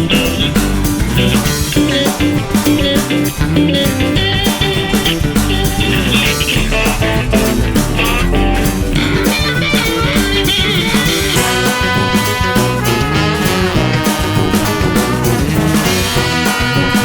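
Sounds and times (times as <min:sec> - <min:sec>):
upbeat guitar music with beat: 0:00.0 - 0:17.0.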